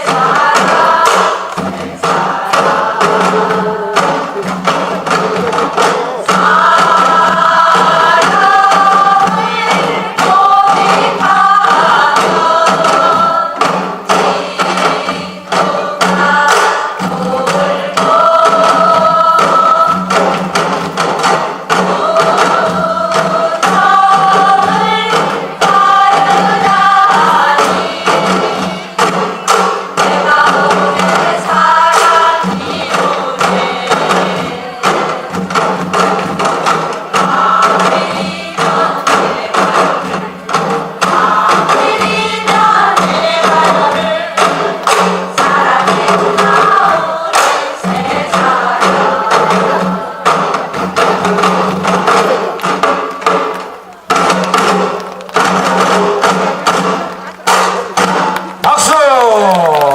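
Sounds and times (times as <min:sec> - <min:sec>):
accompaniment with steady beat: 0:00.0 - 0:59.9
group performing melody in unison: 0:00.0 - 0:59.9.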